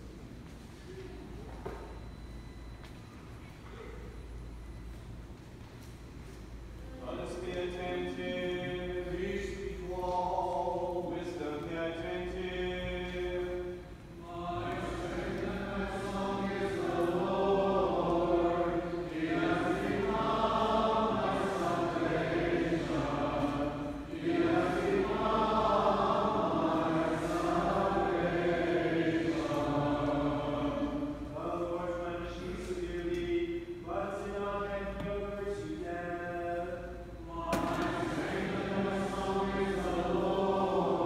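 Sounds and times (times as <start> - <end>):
voices chanting a hymn: 6.9 - 41.0.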